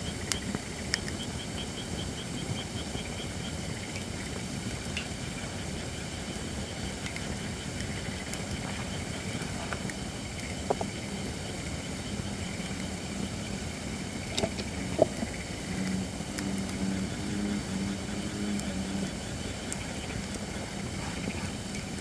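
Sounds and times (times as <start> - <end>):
campfire crackling and popping: 2.5 - 22.0.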